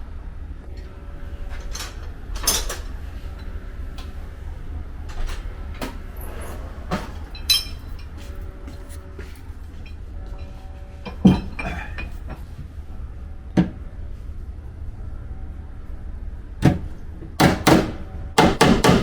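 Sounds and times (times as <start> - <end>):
low hum: 0.0 - 17.4.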